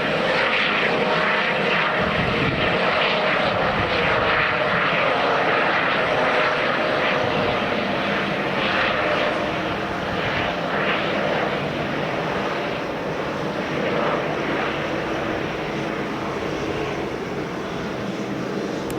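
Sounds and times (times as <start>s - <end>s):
helicopter engine and rotor: 0.0s - 18.9s.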